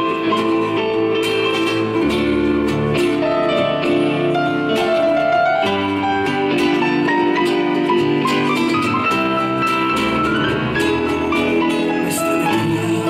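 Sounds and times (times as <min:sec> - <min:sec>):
held keyboard chords: 0:00.0 - 0:13.0
picked guitar: 0:00.0 - 0:13.0.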